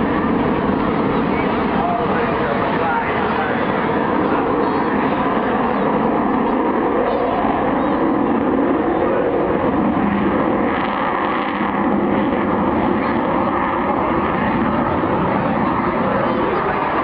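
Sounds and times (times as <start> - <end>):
loud jet noise: 0.0 - 17.0.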